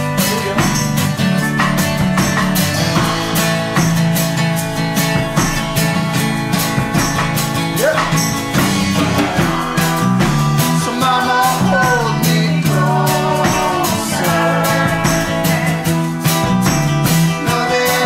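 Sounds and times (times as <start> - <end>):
instrumental music with steady beat: 0.0 - 18.0.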